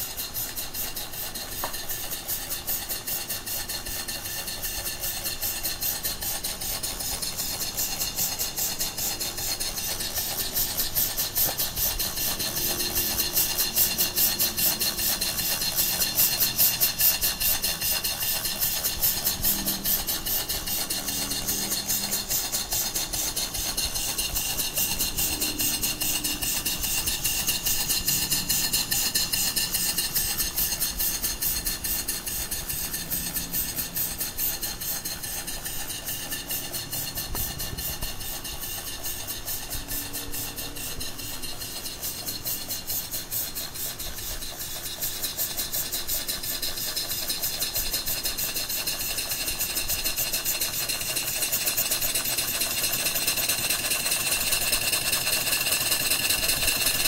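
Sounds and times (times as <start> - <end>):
steam engine exhaust beats: 0.0 - 57.0.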